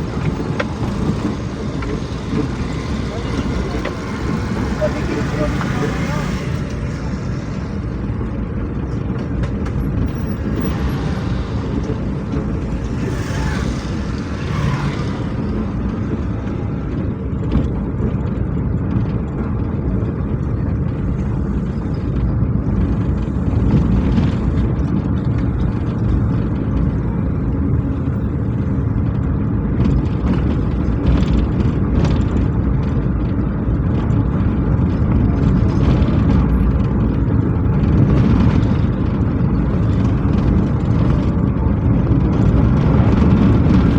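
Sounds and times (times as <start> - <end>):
heavy vehicle engine rumbling: 0.0 - 43.9.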